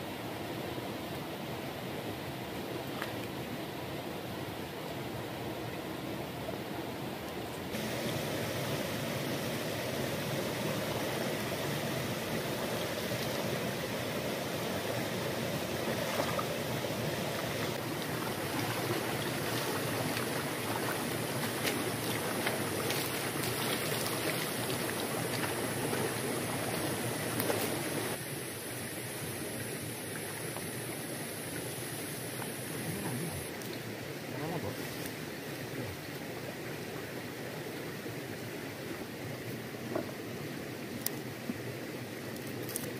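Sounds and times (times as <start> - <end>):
river flowing over stones: 0.0 - 42.9.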